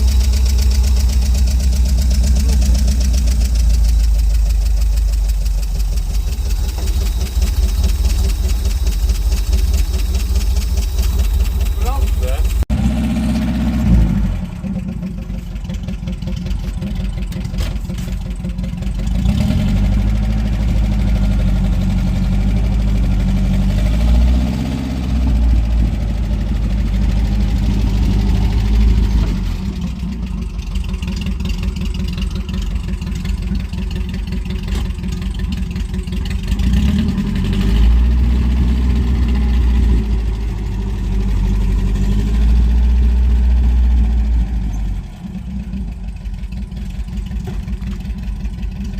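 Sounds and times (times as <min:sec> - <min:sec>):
van engine running: 0:00.0 - 0:48.9.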